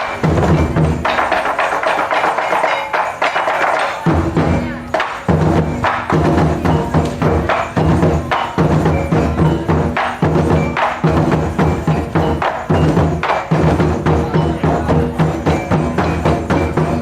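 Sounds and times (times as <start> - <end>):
taiko drums beaten in fast rhythm: 0.0 - 17.0.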